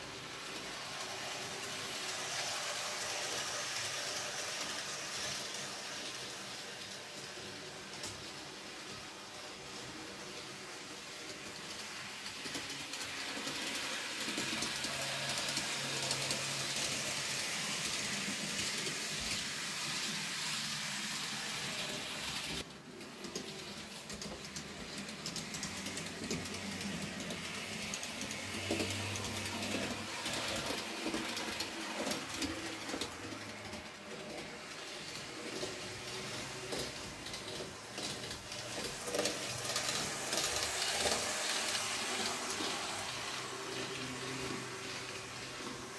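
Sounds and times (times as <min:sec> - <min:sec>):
model train wheels on rails: 0:00.0 - 0:45.9.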